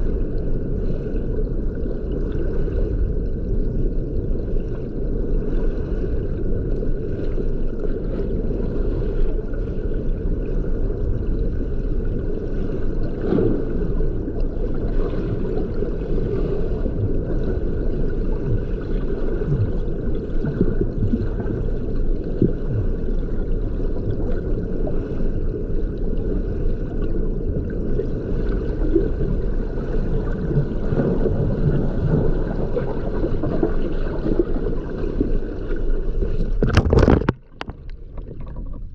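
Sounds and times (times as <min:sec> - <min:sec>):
water gurgles: 0:00.0 - 0:38.9.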